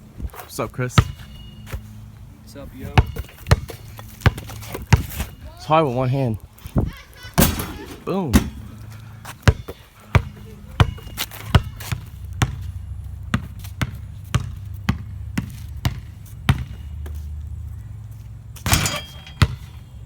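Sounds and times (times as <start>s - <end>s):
basketball dribbled on hard ground: 1.0s - 2.2s, 2.8s - 5.5s, 7.4s - 20.0s.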